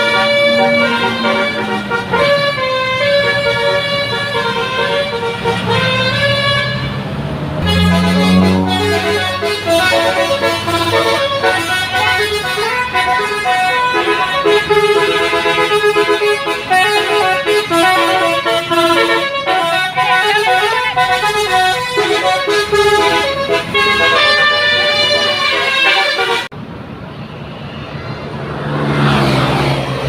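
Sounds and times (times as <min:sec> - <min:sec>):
multi-tone bus horn melody: 0:00.0 - 0:26.5
bus engine running: 0:00.0 - 0:27.1.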